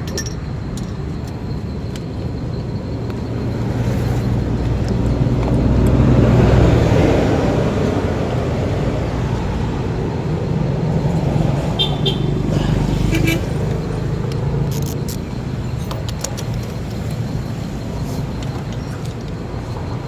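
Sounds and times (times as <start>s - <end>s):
car engine running: 2.6s - 20.0s.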